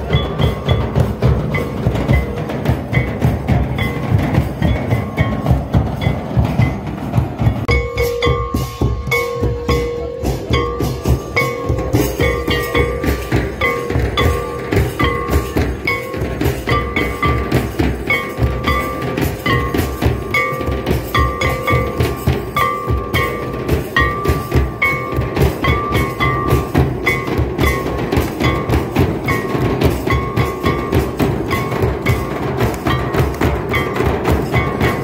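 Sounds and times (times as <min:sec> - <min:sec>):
drums beating fast rhythm: 0:00.0 - 0:35.0.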